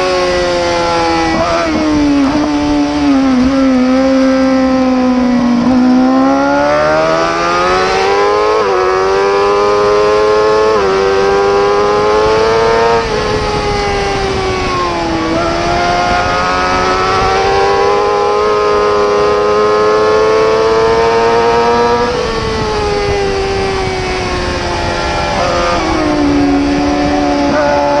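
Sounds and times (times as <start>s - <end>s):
motorcycle engine at high revs: 0.0s - 28.0s.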